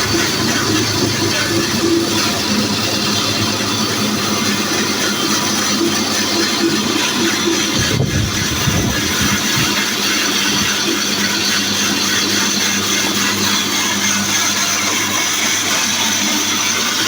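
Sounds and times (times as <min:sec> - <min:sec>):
band saw running: 0:00.0 - 0:17.0.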